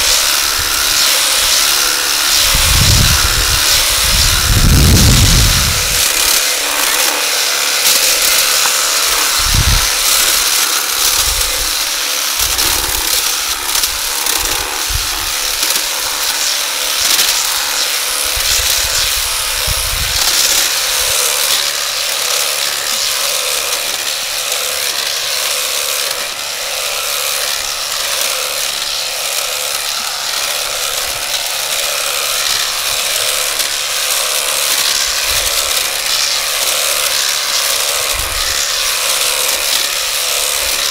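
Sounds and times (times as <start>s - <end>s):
hedge trimmer cutting: 0.0s - 40.9s.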